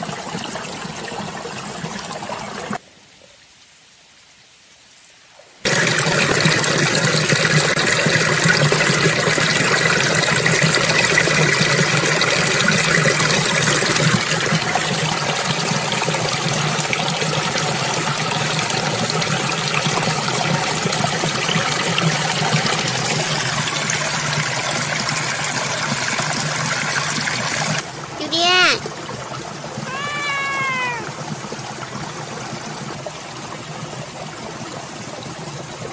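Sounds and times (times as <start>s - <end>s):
stream flowing over rocks: 0.0s - 3.2s, 5.6s - 35.9s.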